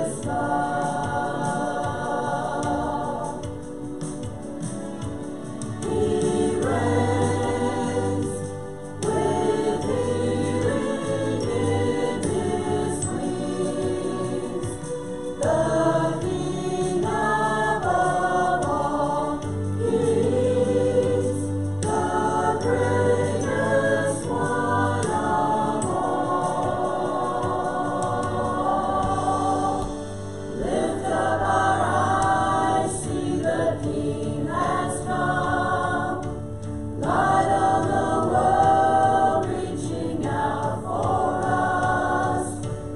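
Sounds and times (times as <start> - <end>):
congregation singing a hymn: 0.0 - 42.9
instrumental accompaniment: 0.0 - 42.9.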